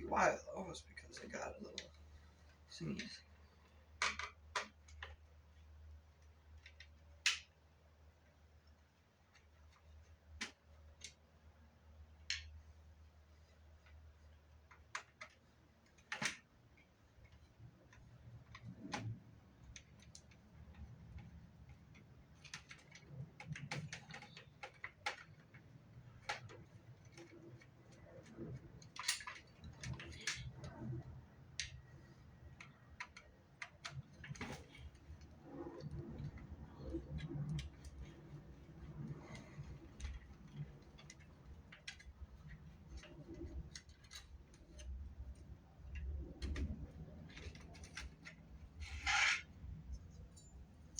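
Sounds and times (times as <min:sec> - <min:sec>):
soft handling noise: 0:00.0 - 0:50.9.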